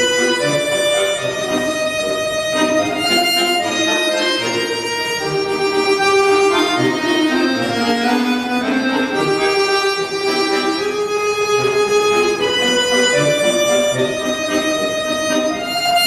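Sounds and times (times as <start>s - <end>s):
accordion playing a waltz: 0.0s - 16.0s.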